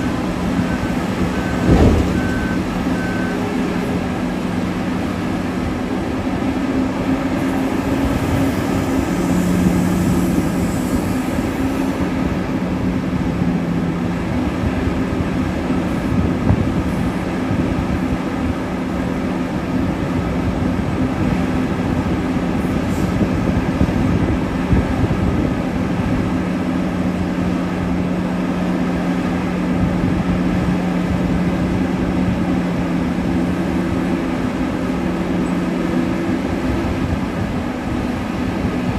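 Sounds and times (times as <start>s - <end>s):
heavy diesel engines droning: 0.0s - 38.9s.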